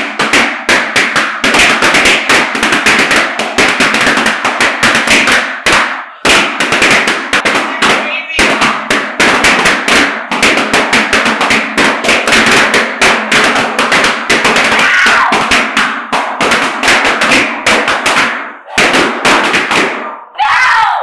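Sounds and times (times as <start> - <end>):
balloons popping: 0.0 - 20.2.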